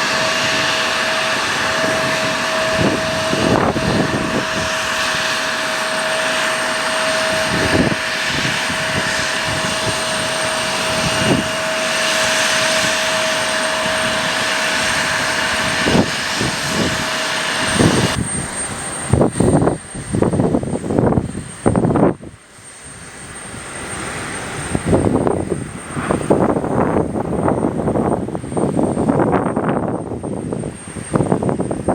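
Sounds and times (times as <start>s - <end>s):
aircraft engine whine: 0.0s - 31.9s
wind buffeting microphone: 0.0s - 31.9s.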